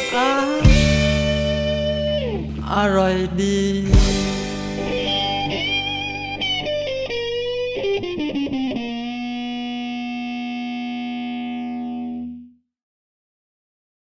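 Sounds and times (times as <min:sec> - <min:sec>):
guitar chord ringing: 0:00.0 - 0:12.5
electric guitar with effects: 0:00.0 - 0:12.6.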